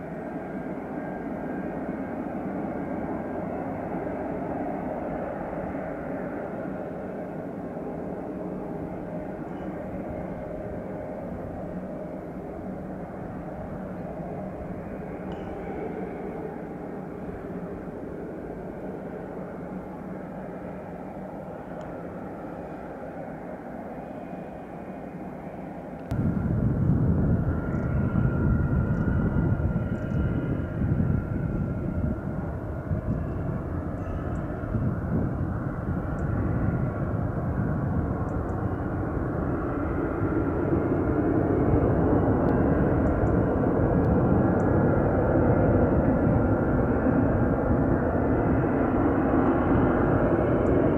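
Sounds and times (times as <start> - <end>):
faint steady whine: 0.0 - 50.9
jet engines humming: 0.0 - 50.9
loud low jet rumble: 2.6 - 50.9.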